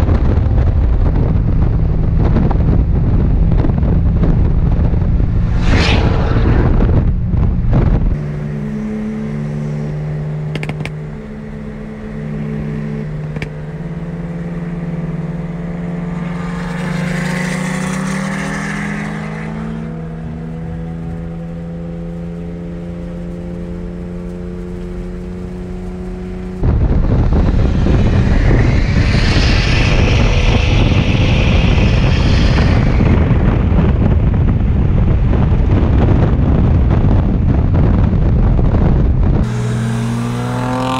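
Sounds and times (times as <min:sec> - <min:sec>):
engine climbing in pitch: 0:00.0 - 0:40.9
high whine: 0:00.0 - 0:40.9
road and wind noise: 0:00.0 - 0:40.9.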